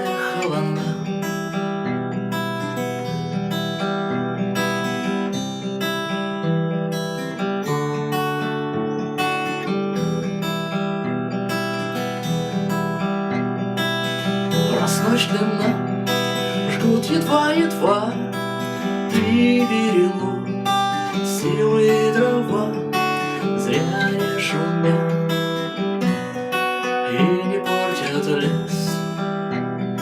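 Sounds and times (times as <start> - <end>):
fingerpicked acoustic guitar: 0.0 - 30.0.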